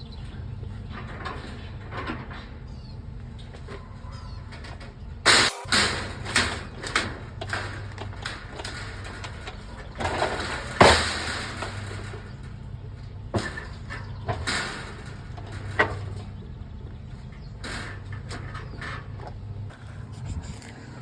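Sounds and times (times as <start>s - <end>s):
scrap metal clattering: 0.0s - 21.0s.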